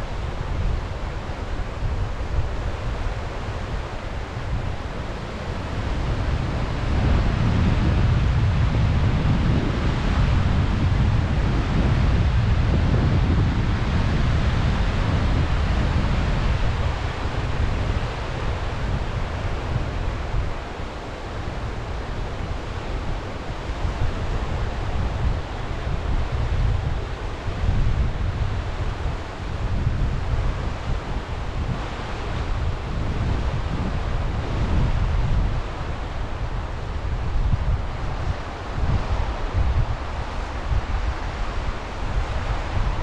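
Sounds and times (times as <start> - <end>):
sea waves washing on shore: 0.0 - 43.0
wind buffeting microphone: 0.0 - 43.0.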